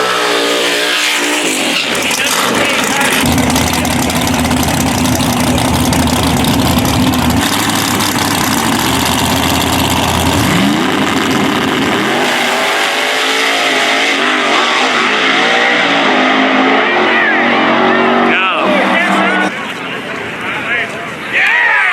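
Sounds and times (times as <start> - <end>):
race car engines revving: 0.0 - 21.6.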